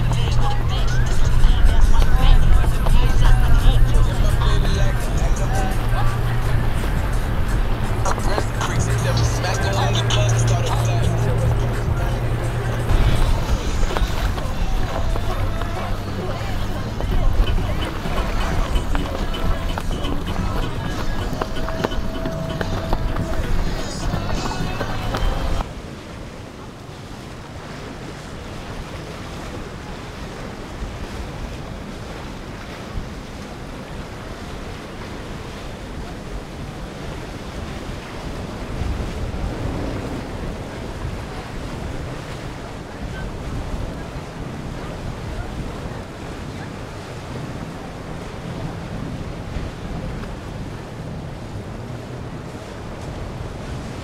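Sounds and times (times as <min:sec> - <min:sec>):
rush of water from boat wake: 0:00.0 - 0:54.0
wind buffeting microphone: 0:00.0 - 0:54.0.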